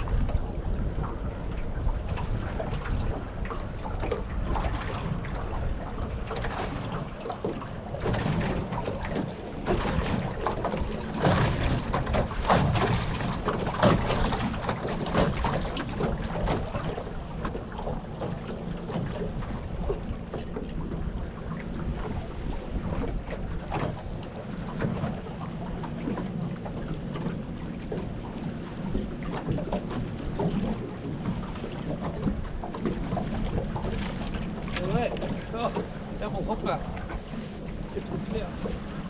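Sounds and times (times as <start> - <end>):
knocks and splashes: 0.0 - 39.0
water lapping against boat hull: 0.0 - 39.0
wind buffeting microphone: 0.0 - 39.0.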